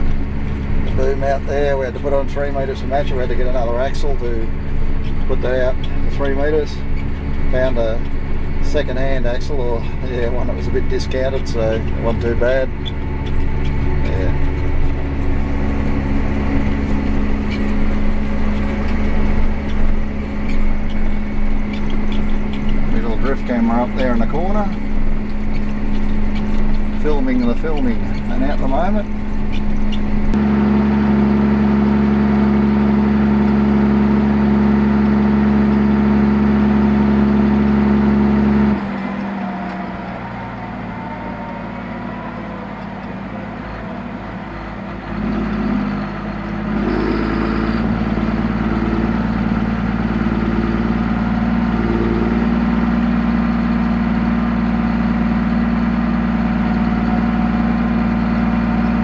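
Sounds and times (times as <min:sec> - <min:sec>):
tractor diesel engine droning: 0:00.0 - 0:59.0.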